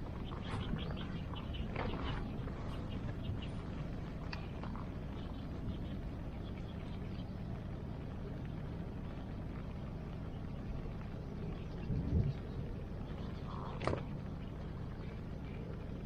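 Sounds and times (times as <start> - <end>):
campfire crackles: 0.0 - 16.0
rain: 0.0 - 16.0.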